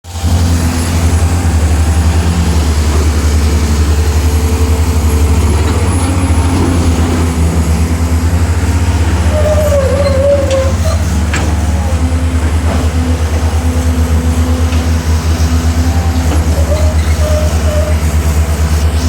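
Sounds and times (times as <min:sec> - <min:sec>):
excavator diesel engines running: 0:00.0 - 0:19.0.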